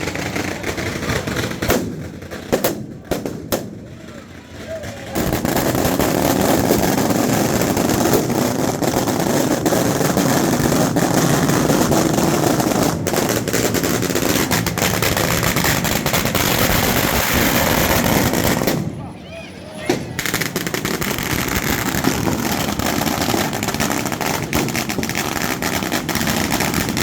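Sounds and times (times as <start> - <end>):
firecrackers crackling: 0.0 - 27.0.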